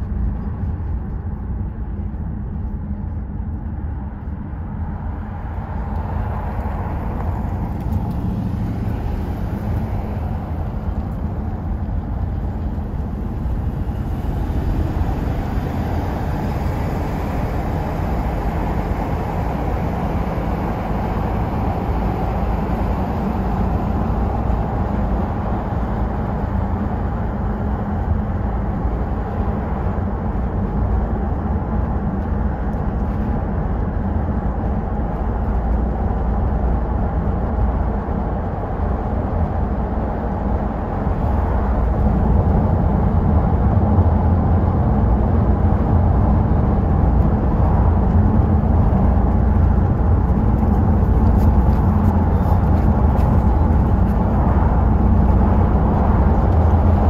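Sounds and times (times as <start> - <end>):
car road noise: 0.0 - 57.0
wind through open car window: 0.0 - 57.0.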